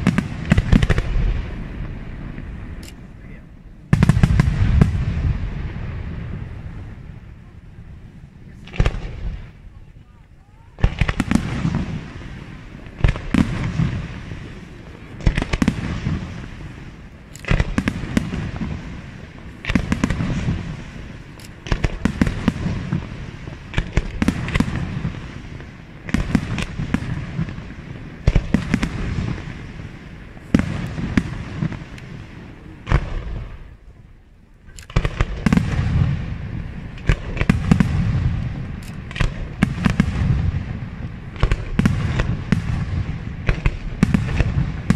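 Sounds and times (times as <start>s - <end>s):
firework crackles: 0.0s - 44.9s.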